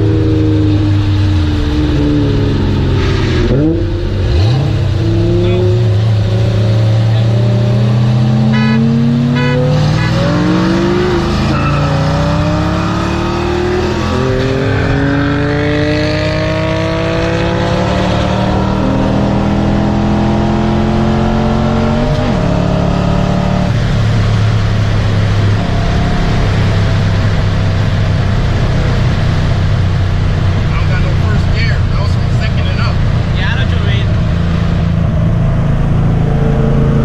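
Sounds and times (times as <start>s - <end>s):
sports car engine accelerating: 0.0s - 37.0s.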